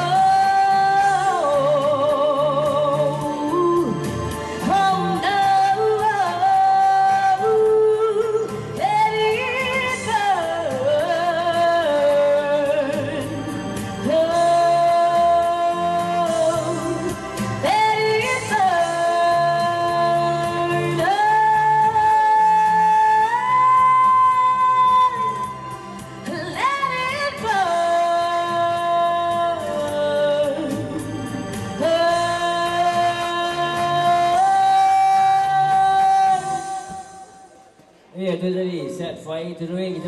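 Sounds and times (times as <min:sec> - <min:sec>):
amplified backing music: 0:00.0 - 0:40.0.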